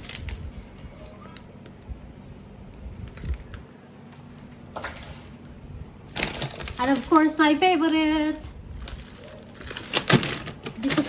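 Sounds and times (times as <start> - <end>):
packages rustling: 0.0 - 1.5, 3.0 - 11.0.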